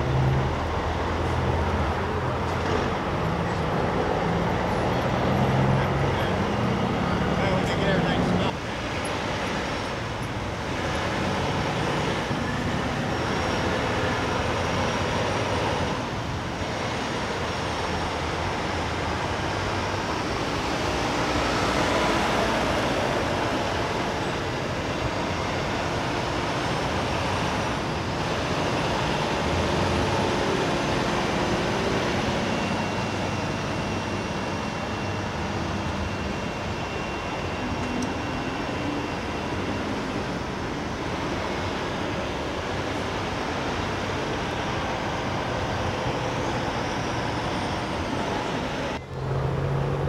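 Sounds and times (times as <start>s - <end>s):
diesel truck engines passing: 0.0s - 36.9s, 37.5s - 50.0s
traffic noise: 0.0s - 50.0s.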